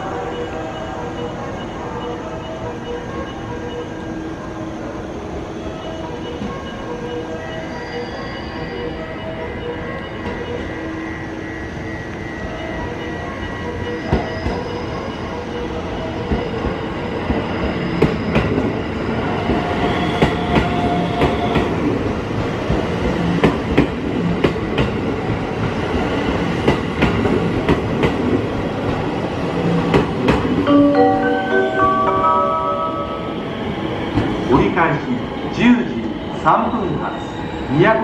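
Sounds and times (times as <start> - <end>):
electric train rumble: 0.0 - 38.0.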